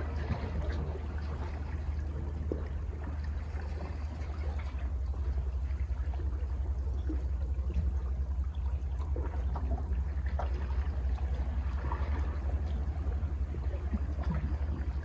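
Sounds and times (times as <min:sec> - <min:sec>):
small water splashes: 0:00.0 - 0:15.0
steady low rumble: 0:00.0 - 0:15.0.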